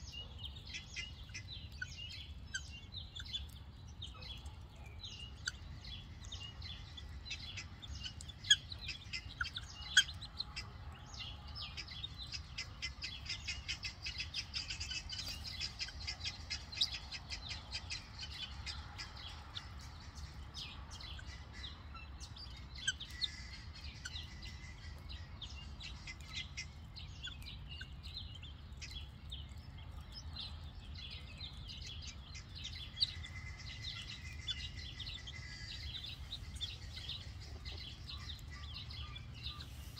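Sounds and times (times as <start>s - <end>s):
guineafowl chicks chirping and peeping: 0.0s - 39.9s.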